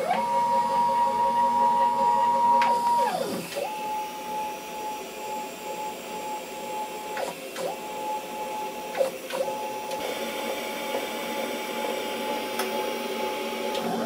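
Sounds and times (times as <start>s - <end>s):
stepper motor whine: 0.0s - 14.0s.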